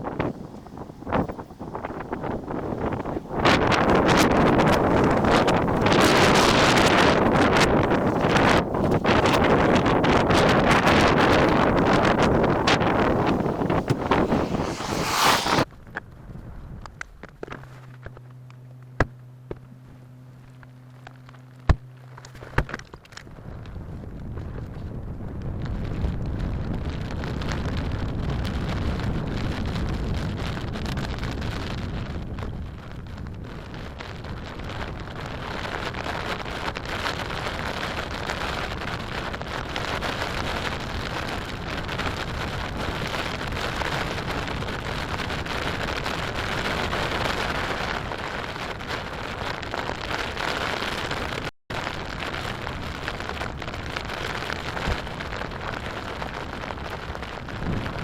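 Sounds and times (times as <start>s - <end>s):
low wind rumble: 0.0s - 58.0s.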